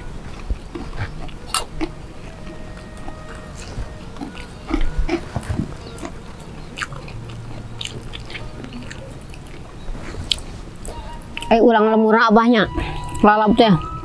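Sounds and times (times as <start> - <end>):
chewing and lip-smacking: 0.0 - 11.6.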